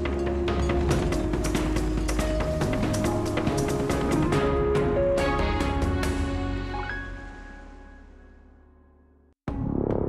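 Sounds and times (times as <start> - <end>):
instrumental theme music: 0.0 - 9.1.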